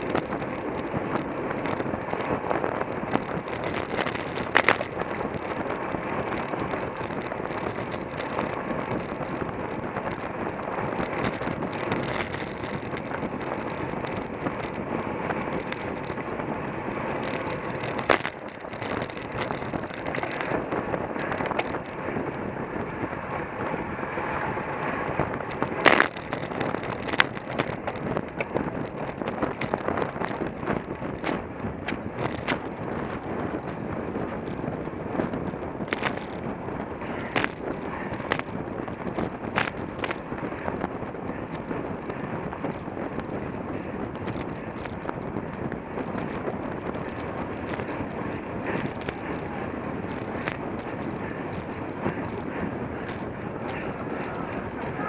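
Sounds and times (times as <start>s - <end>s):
bicycle clicks and rattles: 0.0s - 55.0s
wind and road noise: 0.0s - 55.0s.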